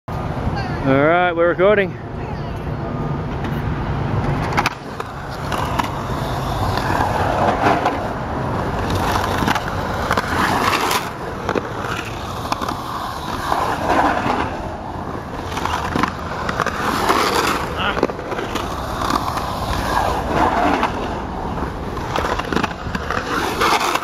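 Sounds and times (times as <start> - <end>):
skateboard wheels rolling on concrete: 0.1 - 24.0
skateboard clicks: 3.4 - 24.0.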